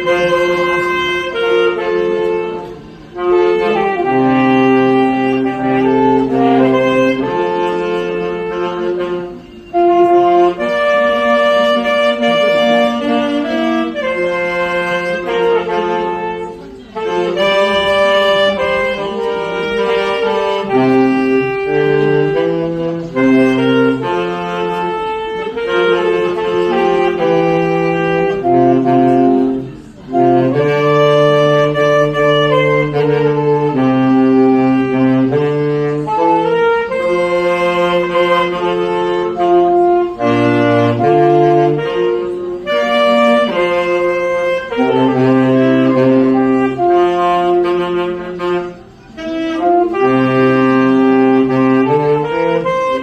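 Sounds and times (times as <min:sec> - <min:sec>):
saxophone melody: 0:00.0 - 0:53.0.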